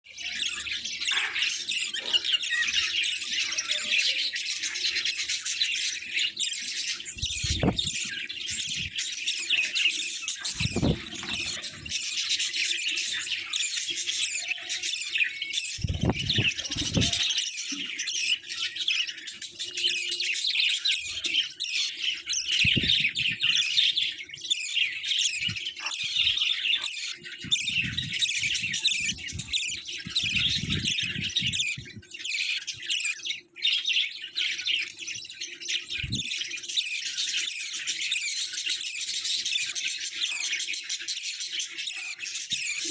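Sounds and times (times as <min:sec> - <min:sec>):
budgerigars chirping: 0:00.1 - 0:42.9.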